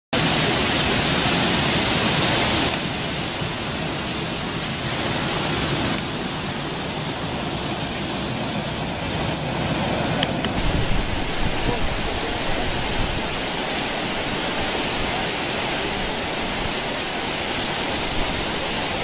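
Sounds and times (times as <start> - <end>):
waterfall rushing onto rocks: 0.2 - 19.0.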